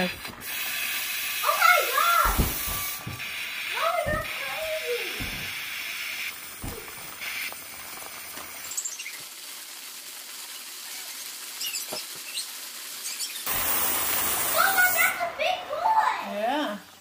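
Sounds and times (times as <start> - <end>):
helium hissing into balloon: 0.0 - 16.1
confetti pattering inside balloon: 1.4 - 15.8.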